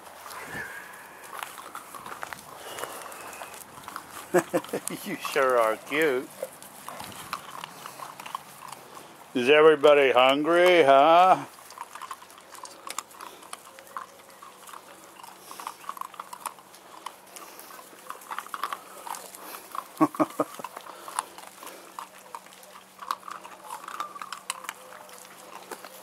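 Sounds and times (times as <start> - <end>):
puppies crunching dry kibble: 0.0 - 26.0.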